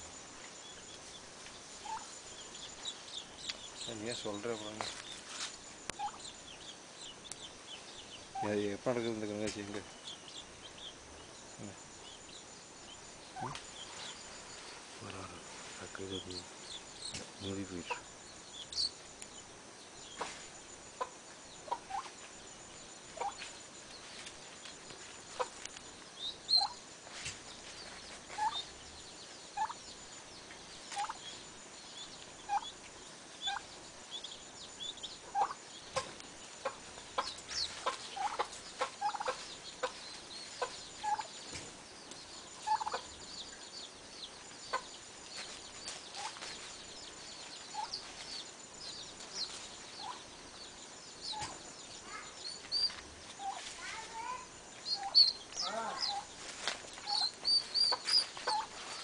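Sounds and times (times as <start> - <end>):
birds chirping: 0.0 - 59.0
faint steady hiss: 0.0 - 59.0.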